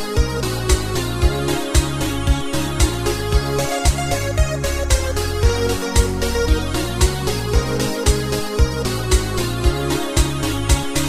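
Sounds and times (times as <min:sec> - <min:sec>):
deep bass line: 0:00.0 - 0:11.0
melody of pitched notes: 0:00.0 - 0:11.0
heavy kick drum: 0:00.2 - 0:11.0.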